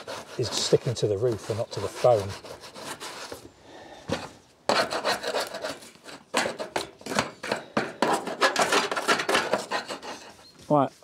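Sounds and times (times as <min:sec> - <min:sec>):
metal tool scraping foam filler: 0:00.0 - 0:03.4, 0:04.7 - 0:10.9.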